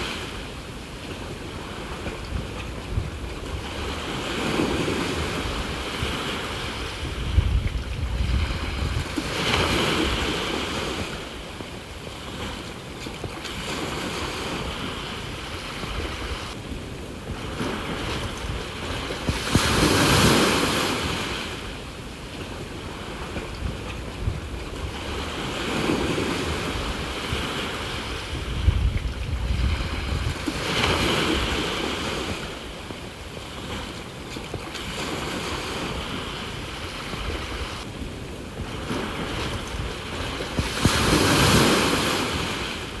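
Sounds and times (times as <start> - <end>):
sea waves breaking on shore: 0.0 - 43.0
wind rumbling on microphone: 0.0 - 43.0.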